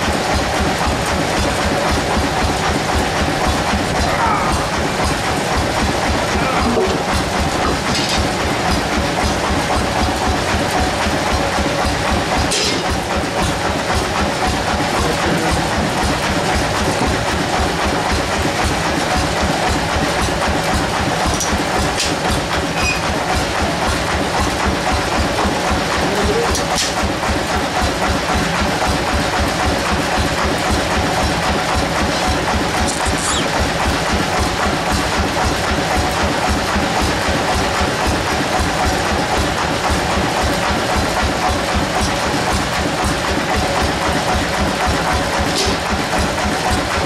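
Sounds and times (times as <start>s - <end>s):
bandsaw mill machinery thumping: 0.0s - 47.0s.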